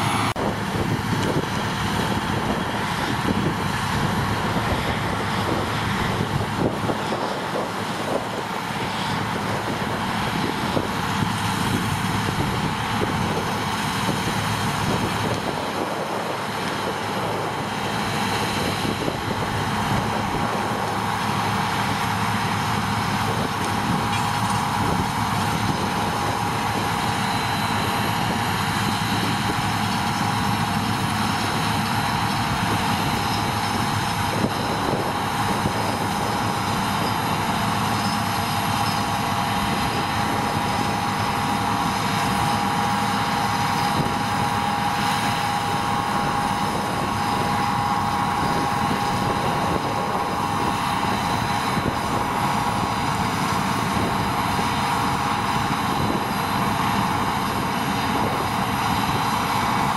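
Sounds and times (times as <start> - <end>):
combine harvester engine and machinery: 0.0 - 59.9
steady mechanical whine: 0.0 - 59.9.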